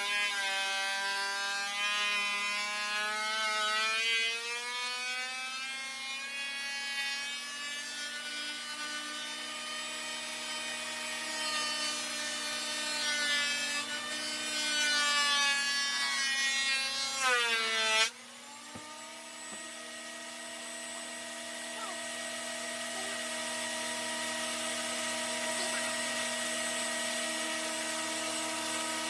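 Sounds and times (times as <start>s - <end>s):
planer cutting wood: 0.0s - 29.0s
thickness planer motor whine: 0.0s - 29.0s.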